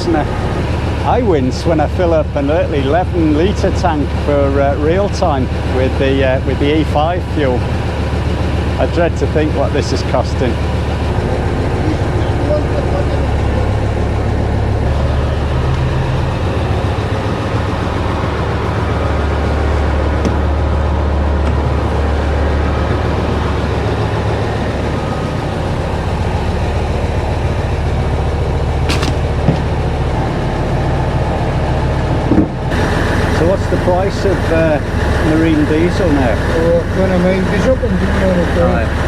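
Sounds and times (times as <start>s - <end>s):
lorry engine hum: 0.0s - 39.0s.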